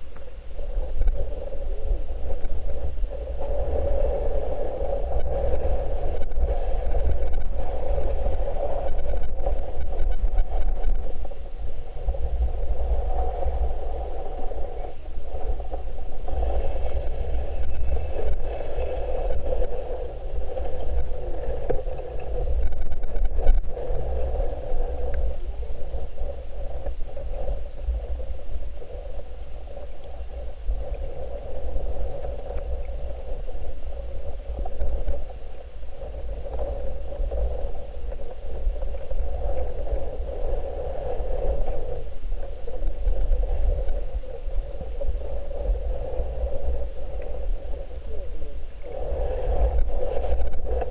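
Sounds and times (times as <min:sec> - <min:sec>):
underwater creek rushing: 0:00.0 - 0:50.9.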